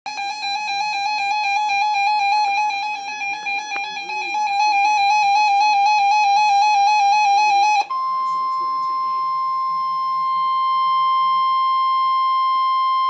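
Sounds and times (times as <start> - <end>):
faint programme audio: 0.1 - 12.2
steady high tone: 0.1 - 13.0
warbling electronic alarm tone: 0.1 - 13.0.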